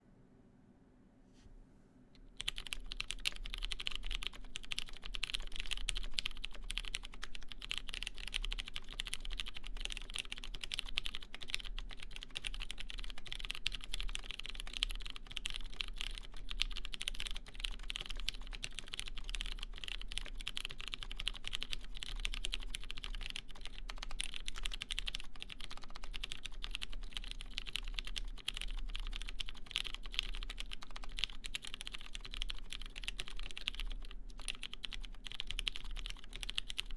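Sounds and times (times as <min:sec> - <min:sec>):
faint low hum: 0:00.0 - 0:36.9
fast typing on mechanical keyboard: 0:02.3 - 0:36.9.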